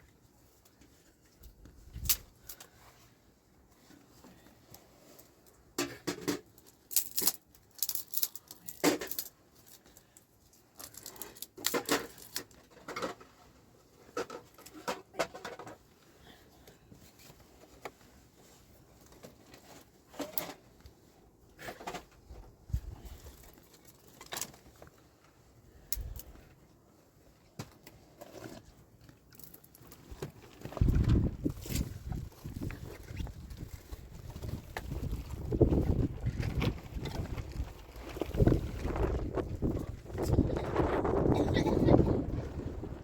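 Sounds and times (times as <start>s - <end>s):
rustling and scraping of objects: 0.0s - 43.0s.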